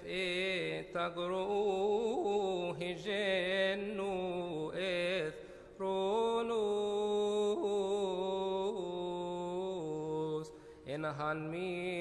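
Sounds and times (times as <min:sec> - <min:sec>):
man chanting a hymn: 0:00.0 - 0:12.0.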